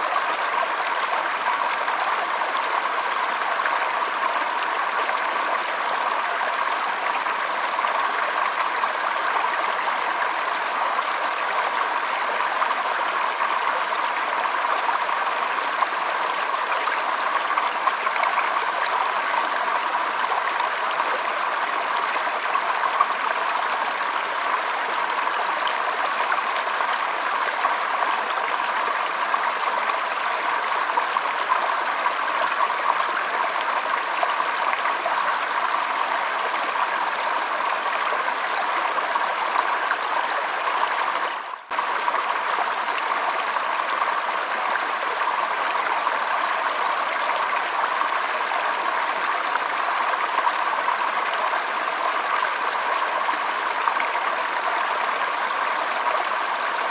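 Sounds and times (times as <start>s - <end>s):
stream flowing over stones: 0.0s - 56.9s.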